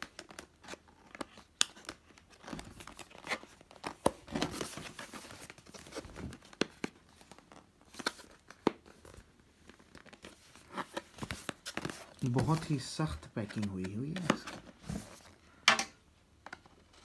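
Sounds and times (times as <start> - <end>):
plastic shrink-wrap crinkling: 0.0 - 15.4
plastic tearing rustle: 0.0 - 15.4.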